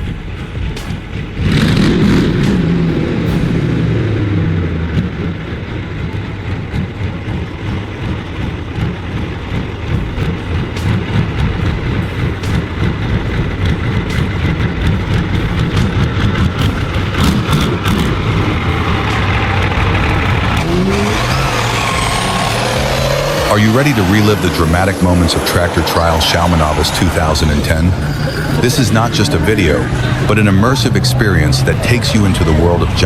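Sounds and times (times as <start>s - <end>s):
heavy vehicle engine rumbling: 0.0s - 33.0s.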